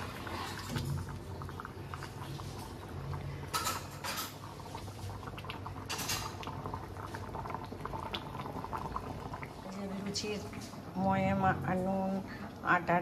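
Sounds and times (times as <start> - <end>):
thick food bubbling: 0.0 - 13.0.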